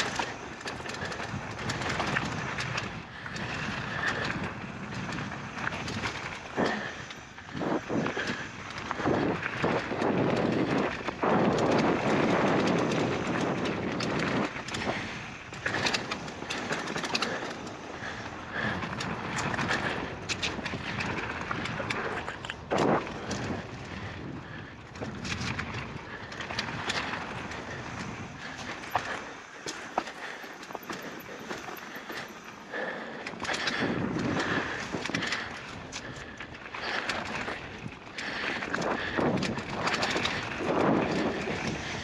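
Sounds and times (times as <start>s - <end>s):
bike rattling and clicking: 0.0s - 42.0s
bike tyres rolling on dirt: 0.0s - 42.0s.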